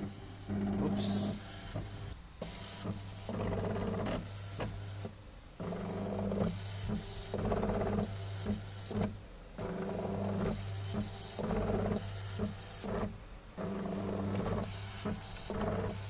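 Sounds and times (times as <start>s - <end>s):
steady low hum: 0.0s - 16.0s
stepper motors buzzing whine: 0.0s - 16.0s.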